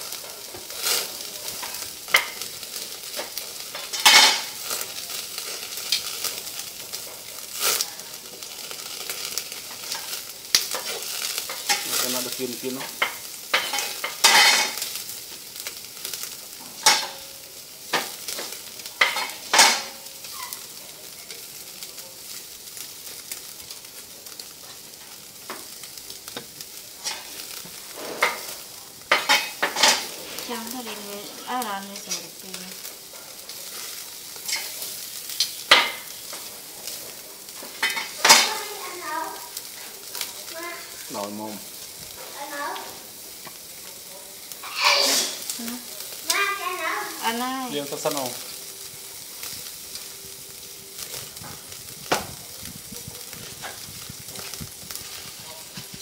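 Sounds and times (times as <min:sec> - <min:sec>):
meat sizzling on grill: 0:00.0 - 0:56.0.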